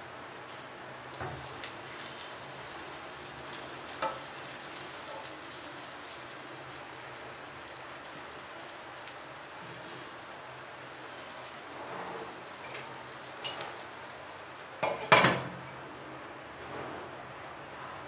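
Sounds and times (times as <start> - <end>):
batter sizzling in pan: 0.0 - 15.8.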